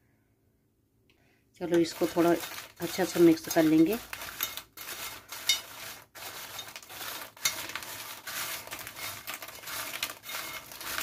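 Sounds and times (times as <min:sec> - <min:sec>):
churros scraping on metal plate: 0:01.7 - 0:11.0.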